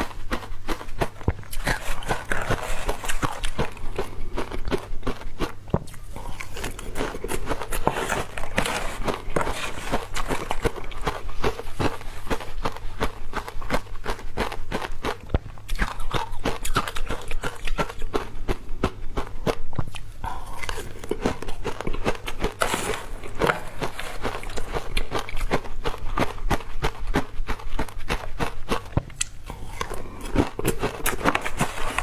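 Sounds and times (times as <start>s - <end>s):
ice crunching being chewed: 0.0s - 32.0s.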